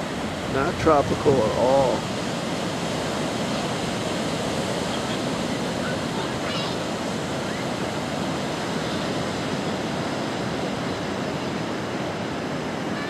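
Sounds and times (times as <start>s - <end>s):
surf breaking on sandy beach: 0.0s - 13.0s.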